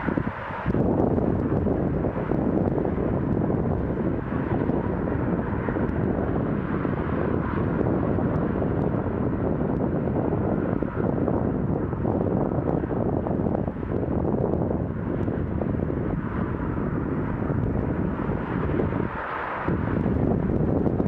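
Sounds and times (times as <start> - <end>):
motorway traffic roar: 0.0 - 21.0.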